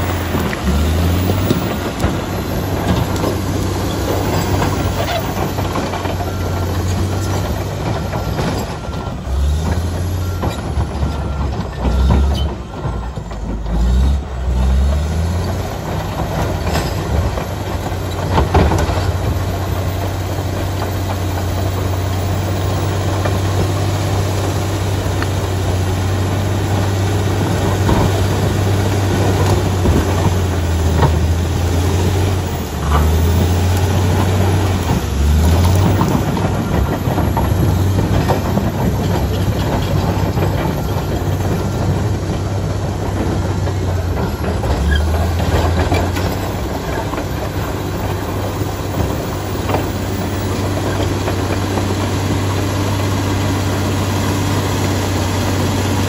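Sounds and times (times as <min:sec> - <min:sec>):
clanks of steel tracks and rocks: 0:00.0 - 0:56.0
diesel engine running under load: 0:00.0 - 0:56.0.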